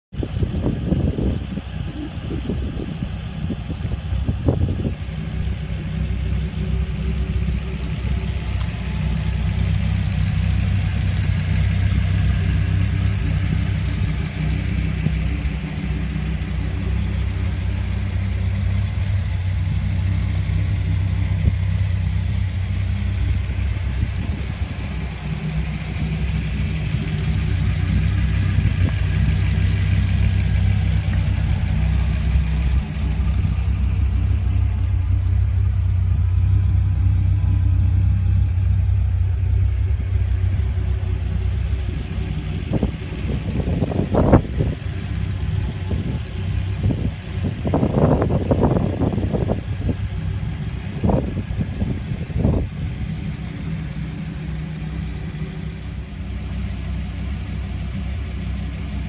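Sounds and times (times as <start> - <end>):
car engine idling: 0.1 - 59.0.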